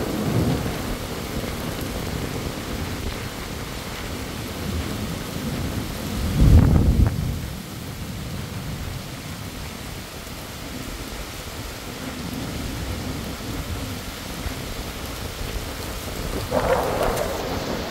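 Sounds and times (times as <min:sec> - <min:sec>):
thunder rumbling: 0:00.0 - 0:09.0, 0:12.0 - 0:17.9
heavy rain on pavement: 0:00.0 - 0:17.9.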